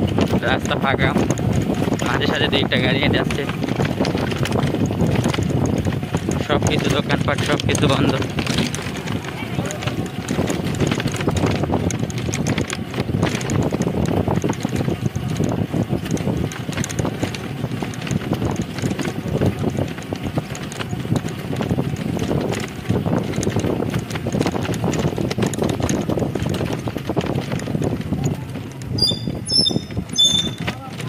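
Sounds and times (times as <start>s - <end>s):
rickshaw rattling and clicking: 0.0s - 31.0s
wheels rumbling on road: 0.0s - 31.0s.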